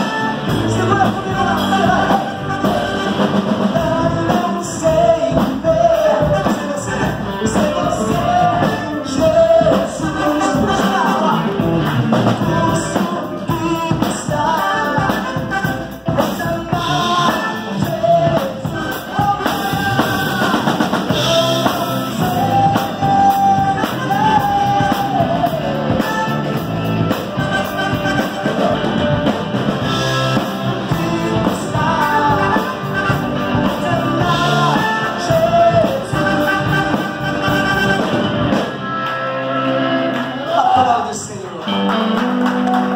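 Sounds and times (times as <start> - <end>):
lead singer: 0.0 - 42.9
live rock band playing: 0.0 - 42.9.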